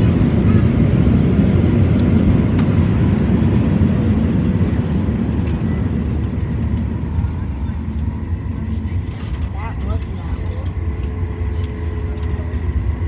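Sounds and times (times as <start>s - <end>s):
jet cabin engine rumble: 0.0s - 13.0s.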